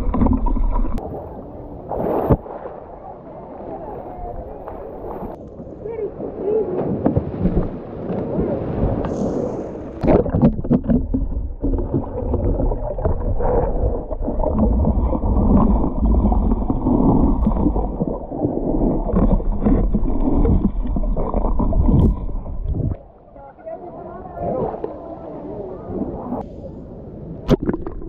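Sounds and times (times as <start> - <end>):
underwater churning and gurgling: 0.0 - 23.3, 27.5 - 28.0.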